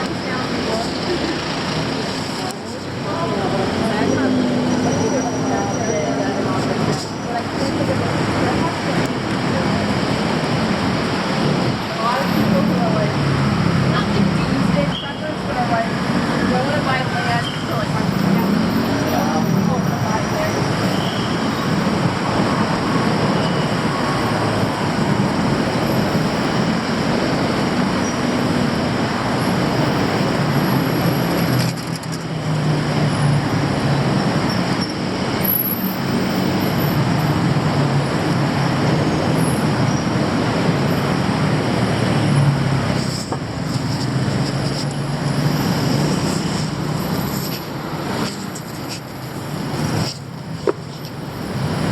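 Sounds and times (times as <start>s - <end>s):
road traffic noise: 0.0s - 51.9s
vehicle engines humming: 0.0s - 51.9s.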